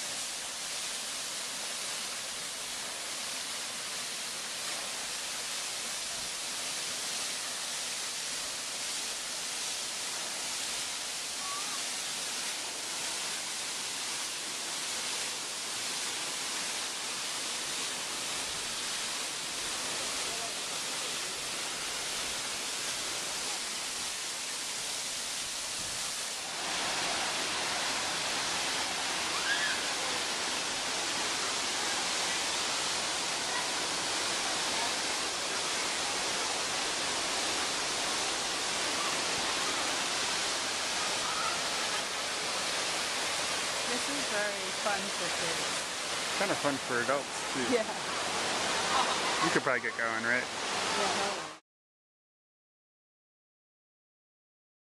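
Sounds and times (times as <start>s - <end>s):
water rushing over stream rocks: 0.0s - 51.6s
waterfall rushing over rock: 0.0s - 51.6s.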